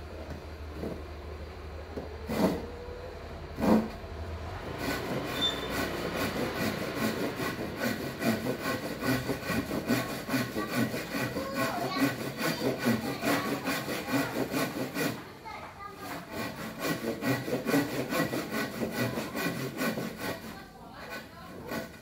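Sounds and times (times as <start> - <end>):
hand saw cutting wood: 0.8 - 1.0, 2.0 - 2.8, 3.5 - 22.0.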